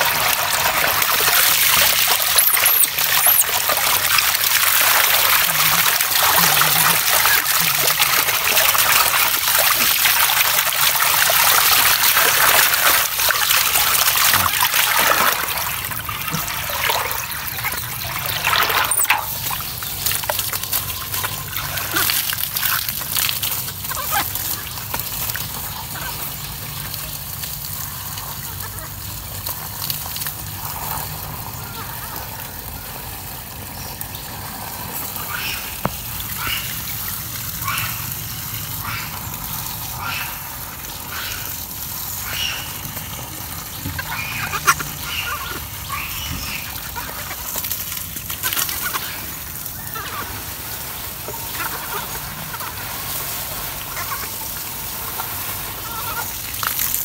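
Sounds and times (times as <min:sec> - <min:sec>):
water splashing in a metal basin: 0:00.0 - 0:31.6, 0:33.7 - 0:57.0.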